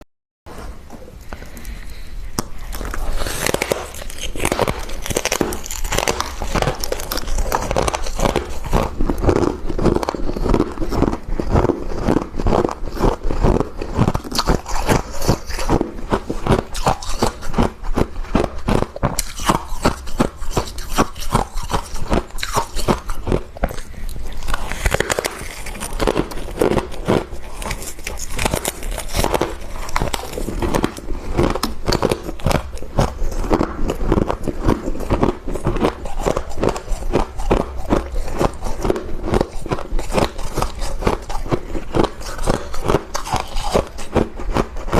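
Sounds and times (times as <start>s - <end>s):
chewing crunchy ice: 2.3s - 44.9s.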